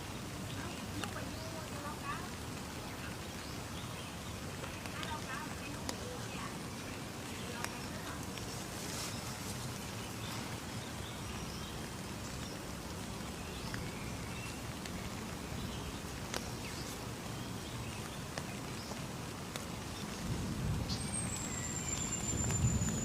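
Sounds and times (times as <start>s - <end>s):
sharp water drips: 0.0s - 23.0s
steady rain falling: 0.0s - 23.0s.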